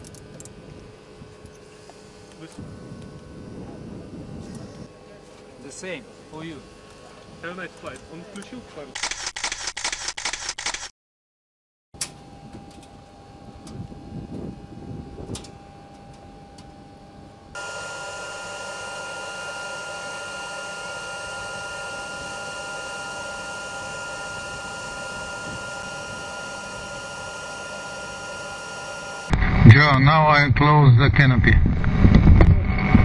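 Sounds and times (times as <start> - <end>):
electrical hum with high whine: 0.0 - 10.8, 12.0 - 33.0.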